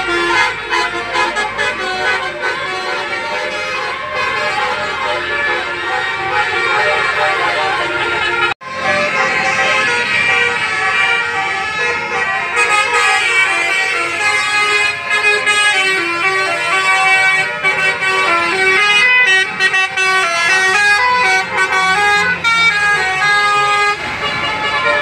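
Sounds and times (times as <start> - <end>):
musical bus horn melody: 0.0 - 25.0.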